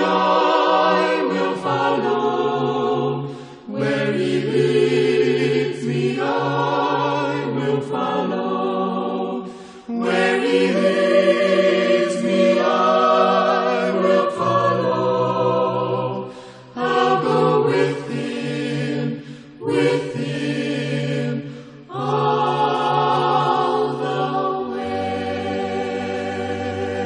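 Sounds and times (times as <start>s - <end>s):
choir singing a slow hymn: 0.0s - 27.0s.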